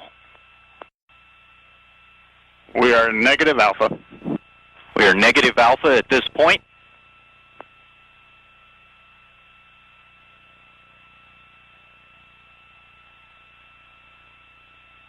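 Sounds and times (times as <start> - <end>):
radio channel hiss and hum: 0.0 - 15.0.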